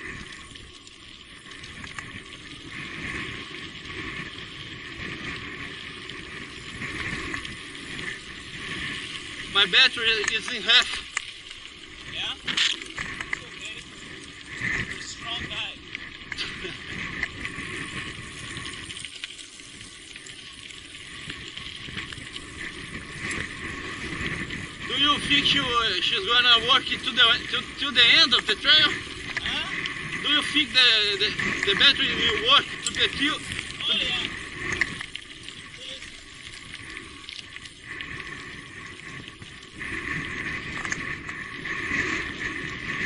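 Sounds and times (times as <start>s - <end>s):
bike rushing along wet trail: 0.0s - 43.0s
rain hissing: 0.0s - 43.0s
raindrops ticking: 0.0s - 43.0s.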